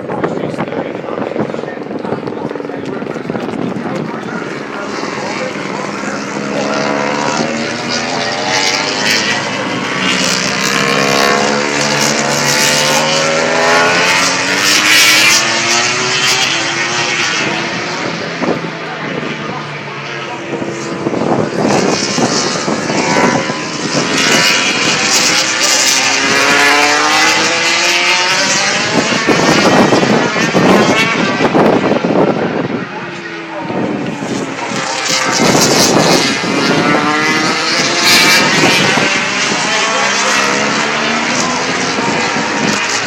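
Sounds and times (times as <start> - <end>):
racing motorcycle engines passing: 0.0 - 43.0.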